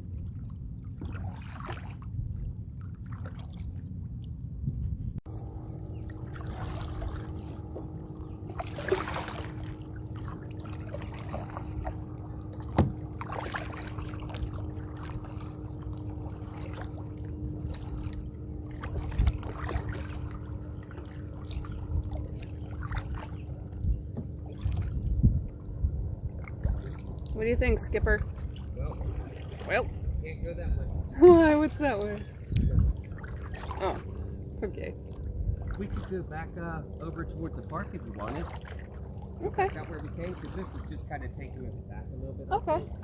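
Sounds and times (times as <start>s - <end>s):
low rumble: 0.0s - 43.0s
paddle splashing in water: 0.1s - 3.9s, 5.3s - 25.6s, 26.3s - 30.1s, 31.6s - 37.0s, 37.8s - 41.3s.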